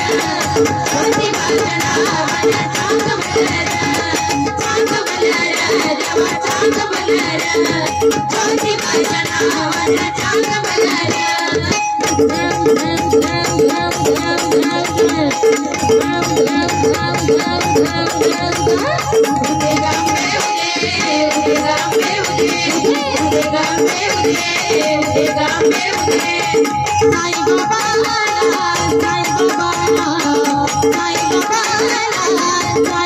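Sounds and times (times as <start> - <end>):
hand drums: 0.0 - 33.0
harmonium: 0.0 - 33.0
small hand percussion: 0.0 - 33.0
women singing: 0.0 - 33.0.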